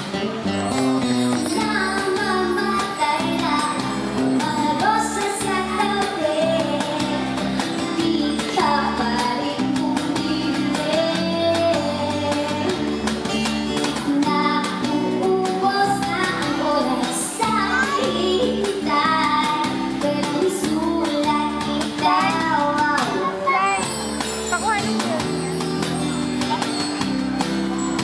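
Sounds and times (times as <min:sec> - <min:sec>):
electric bass: 0:00.0 - 0:28.0
strummed acoustic guitar: 0:00.0 - 0:28.0
woman singing: 0:01.4 - 0:23.8.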